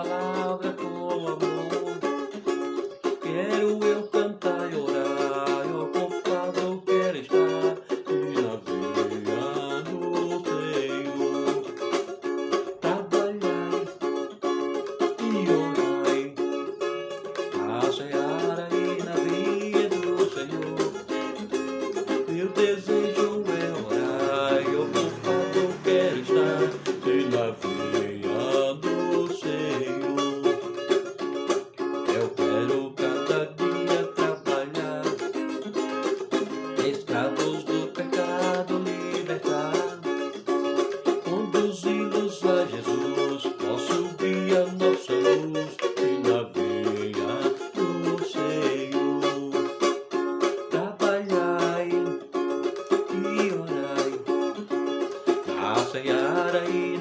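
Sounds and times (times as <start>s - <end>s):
cavaquinho strummed: 0.0s - 57.0s.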